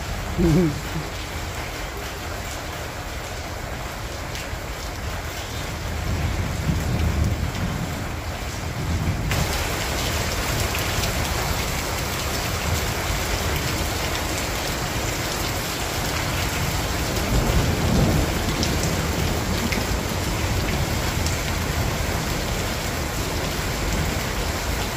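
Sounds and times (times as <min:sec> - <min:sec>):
rain on tiles and plants: 0:00.0 - 0:24.9.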